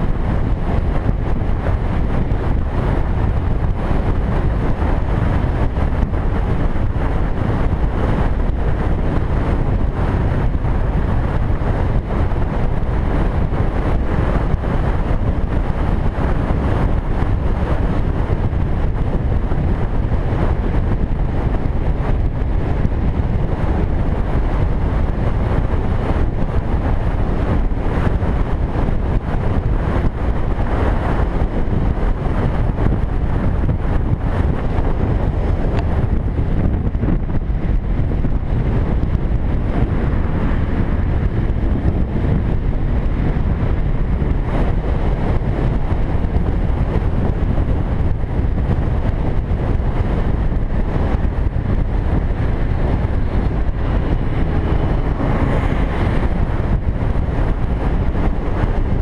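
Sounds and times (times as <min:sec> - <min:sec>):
motorcycle engine and road noise: 0:00.0 - 0:59.0
wind buffeting microphone: 0:00.0 - 0:59.0.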